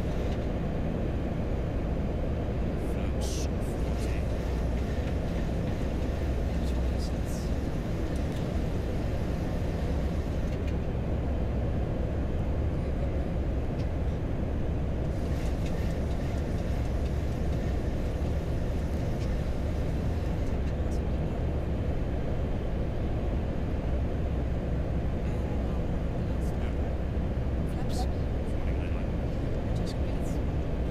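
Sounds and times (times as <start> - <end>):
cockpit airflow and engine noise: 0.0 - 30.9.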